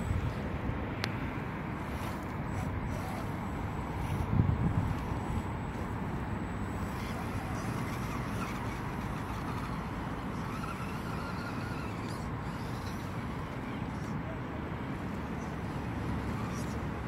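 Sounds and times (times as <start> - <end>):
faint thin whine: 0.0 - 17.0
toy car motor and gears whirring: 1.8 - 14.2, 15.0 - 17.0.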